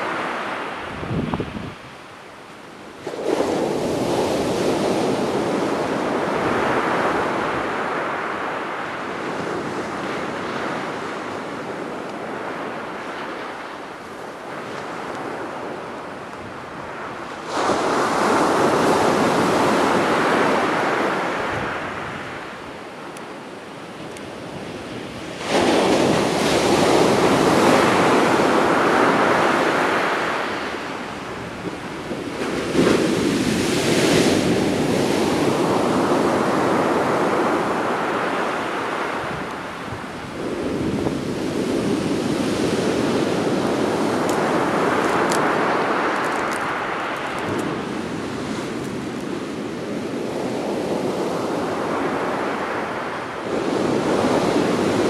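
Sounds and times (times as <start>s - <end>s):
waves crashing on beach: 0.0s - 55.0s.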